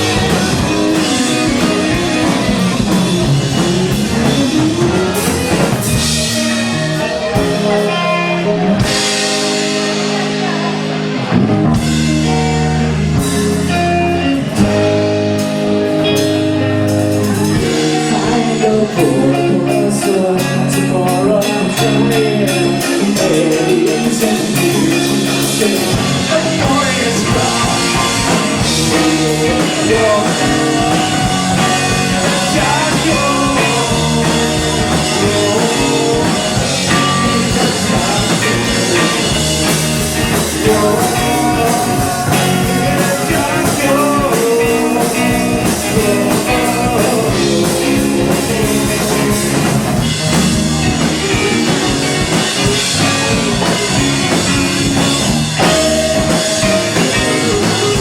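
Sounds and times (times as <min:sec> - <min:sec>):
bass: 0:00.0 - 0:58.0
drum kit: 0:00.0 - 0:58.0
guitar: 0:00.0 - 0:58.0.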